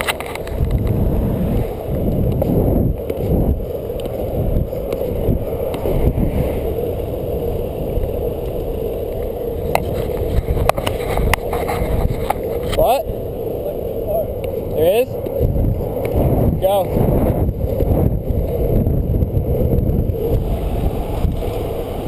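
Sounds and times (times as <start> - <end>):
skateboard wheels rolling on asphalt: 0.0 - 22.0
wheels clicking over bumps: 0.0 - 22.0
wind noise: 0.0 - 22.0.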